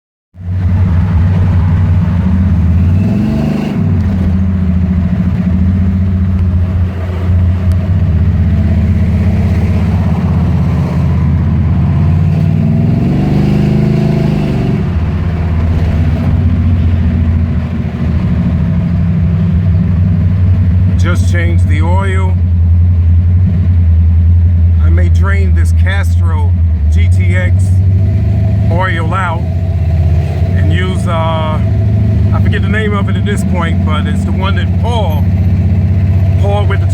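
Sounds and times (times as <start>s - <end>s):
car engine revving: 0.4s - 36.9s.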